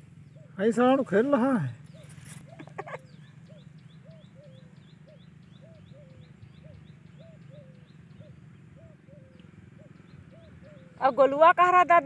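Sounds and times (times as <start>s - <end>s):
bird calling in arched notes: 0.0s - 11.9s.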